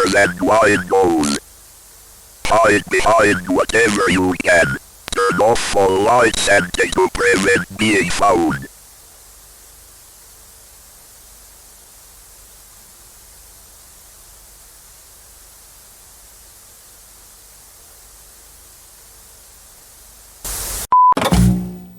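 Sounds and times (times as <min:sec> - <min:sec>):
steady static hiss: 0:00.0 - 0:20.9.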